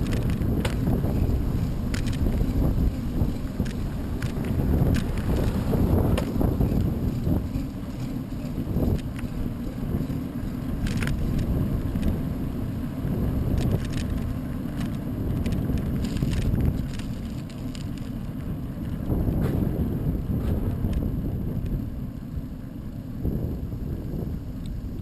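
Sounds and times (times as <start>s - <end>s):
bicycle ticks and rattles: 0.0s - 25.0s
wind buffeting microphone: 0.0s - 25.0s.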